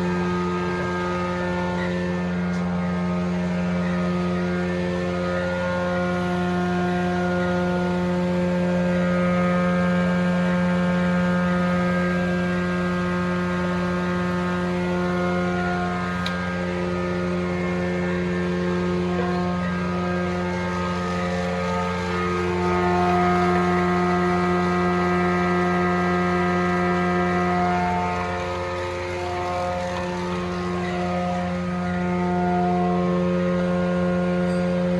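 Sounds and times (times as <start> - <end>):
planer motor humming: 0.0 - 34.9.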